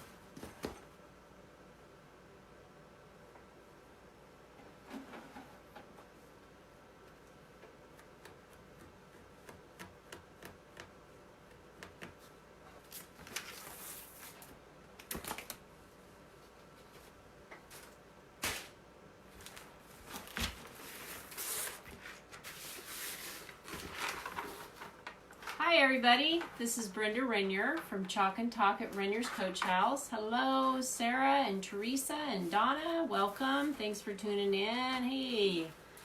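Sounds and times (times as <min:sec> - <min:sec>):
rustling and handling noises: 0:04.5 - 0:36.0.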